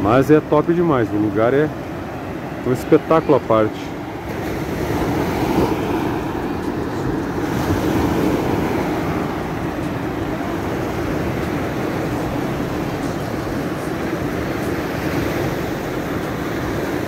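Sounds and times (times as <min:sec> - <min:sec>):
waves breaking on beach: 0:00.0 - 0:17.0
wind buffeting microphone: 0:00.8 - 0:17.0.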